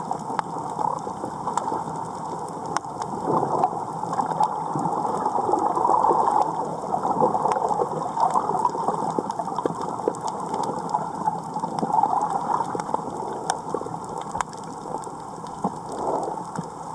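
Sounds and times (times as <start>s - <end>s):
sharp clicks and crackles: 0.0s - 16.9s
underwater gurgling: 0.0s - 16.9s.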